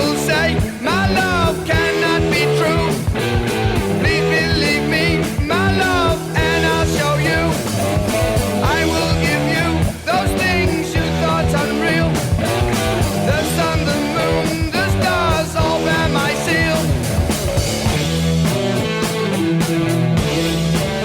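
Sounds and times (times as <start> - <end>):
rock music: 0.0 - 21.0
singing voice or lead guitar: 0.0 - 21.0.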